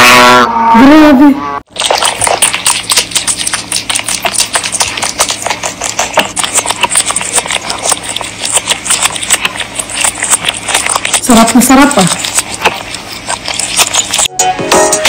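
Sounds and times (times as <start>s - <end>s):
rabbit chewing food: 1.7s - 15.0s.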